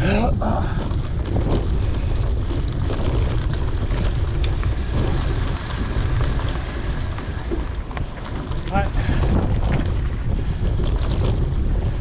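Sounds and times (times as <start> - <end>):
bike ticks and rattles: 0.0 - 12.0
wind buffeting microphone: 0.0 - 12.0.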